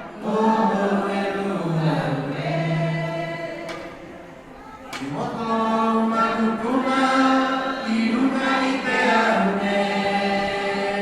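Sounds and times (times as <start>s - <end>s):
group singing a cappella: 0.0s - 4.4s, 5.0s - 11.0s.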